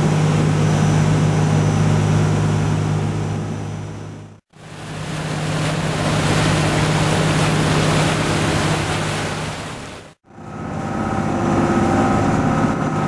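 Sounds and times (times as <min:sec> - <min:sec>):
boat engine humming: 0:00.0 - 0:13.0
water splashing in boat wake: 0:00.0 - 0:13.0.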